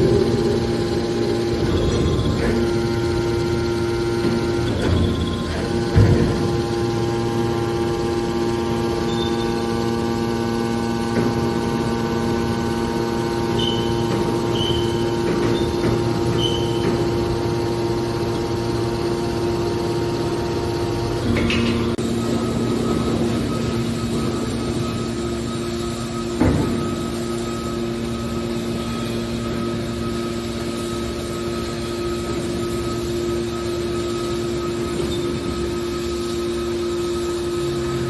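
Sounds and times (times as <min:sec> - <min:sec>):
baler motor and pump hum: 0:00.0 - 0:38.0.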